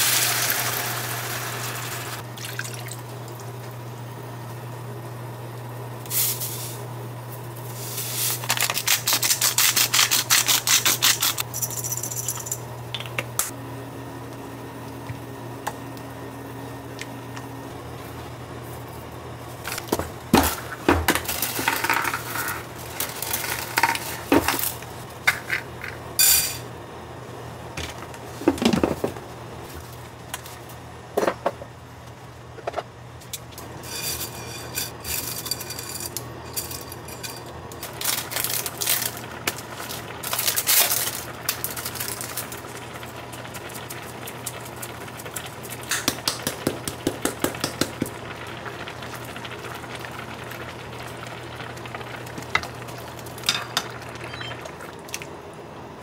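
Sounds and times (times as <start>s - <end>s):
steady low hum: 10.0s - 56.0s.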